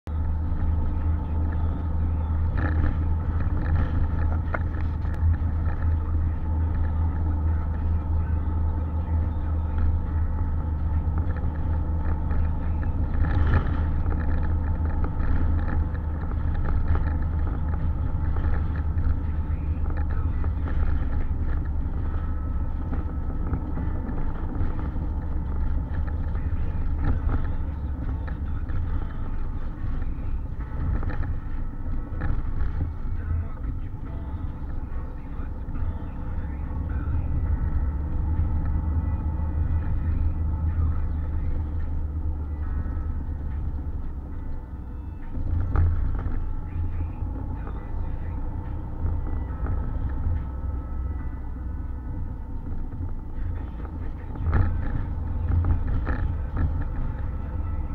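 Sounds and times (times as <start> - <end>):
car engine and tyre drone: 0.0 - 57.9.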